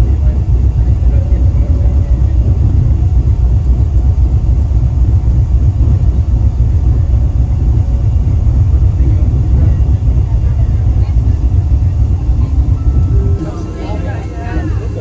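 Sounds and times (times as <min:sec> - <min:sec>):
low fluttering rumble: 0:00.0 - 0:15.0.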